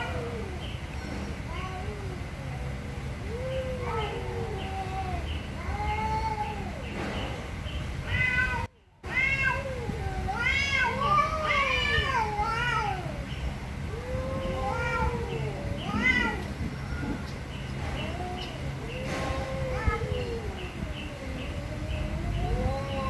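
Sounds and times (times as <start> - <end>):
cats yowling: 0.0 - 7.4, 8.0 - 23.0.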